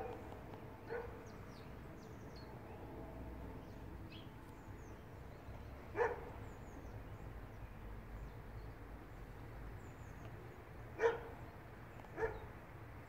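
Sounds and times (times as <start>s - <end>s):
small birds chirping: 0.0s - 2.9s, 3.6s - 13.0s.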